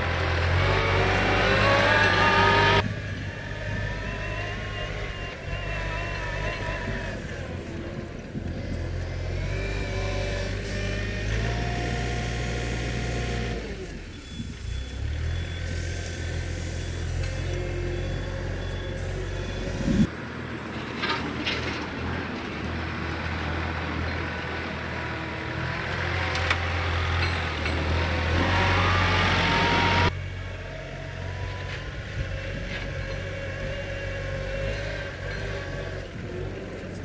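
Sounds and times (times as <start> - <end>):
diesel engine humming: 0.0 - 37.0.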